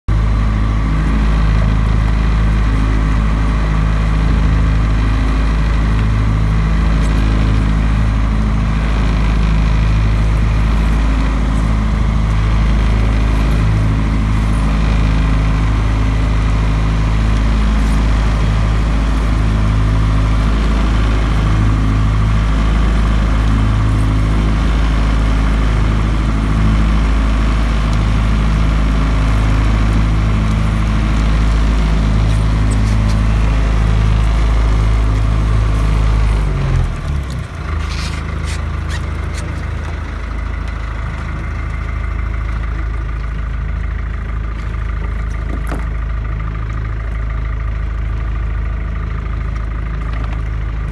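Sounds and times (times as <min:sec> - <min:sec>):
boat engine droning: 0:00.0 - 0:50.9.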